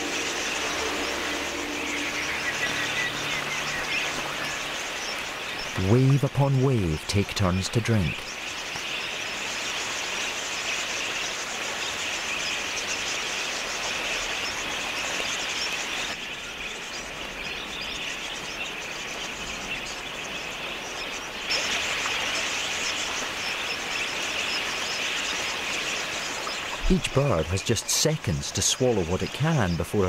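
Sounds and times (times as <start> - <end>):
flock of budgerigars chirping: 0.0 - 30.0.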